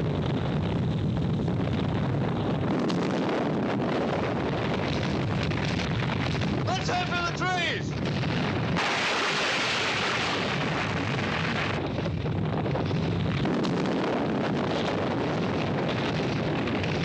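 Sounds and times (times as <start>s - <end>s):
avalanche rushing: 0.0s - 17.0s.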